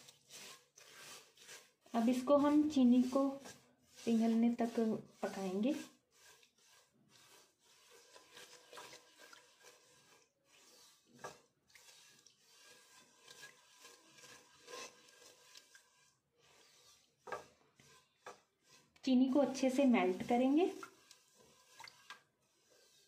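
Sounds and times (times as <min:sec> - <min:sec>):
spatula scraping sugar in a pan: 0:00.0 - 0:23.0.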